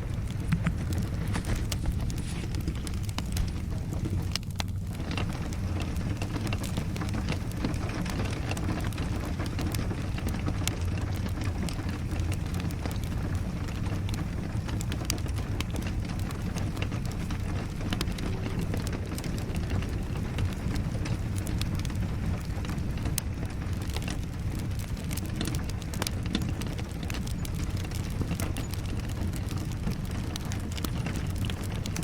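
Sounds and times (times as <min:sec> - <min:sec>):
rain rumbling: 0:00.0 - 0:32.0
wood fire crackling: 0:00.0 - 0:32.0.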